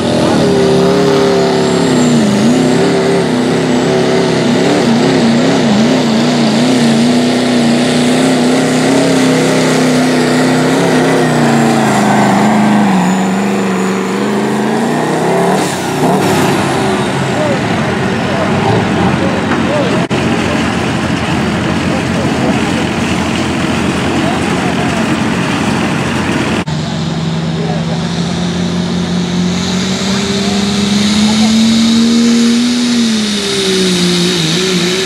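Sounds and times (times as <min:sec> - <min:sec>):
diesel engine at full load: 0:00.0 - 0:35.0.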